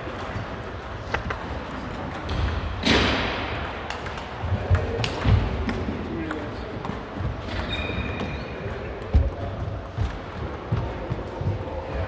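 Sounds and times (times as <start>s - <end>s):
ping pong ball clicking off paddles: 0.1s - 2.7s, 3.6s - 12.0s.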